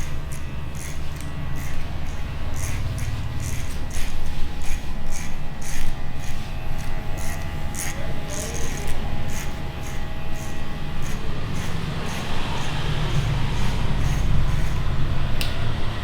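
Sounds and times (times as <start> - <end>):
scissors snipping hair: 0.0 - 15.6.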